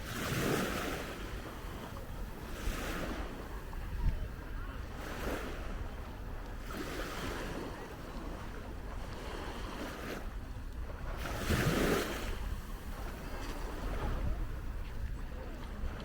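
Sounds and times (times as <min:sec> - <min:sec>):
waves washing onto beach: 0:00.0 - 0:16.0
wind on microphone: 0:00.0 - 0:16.0.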